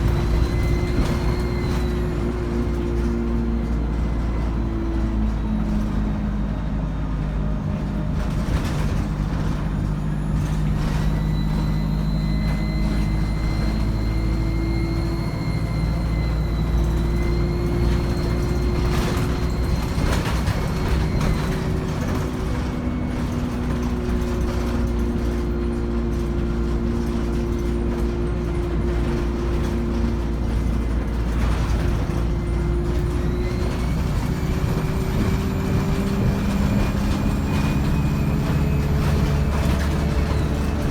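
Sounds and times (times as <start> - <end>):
turbo and gearbox whine: 0.0 - 6.0, 8.5 - 40.9
bus engine running: 0.0 - 40.9.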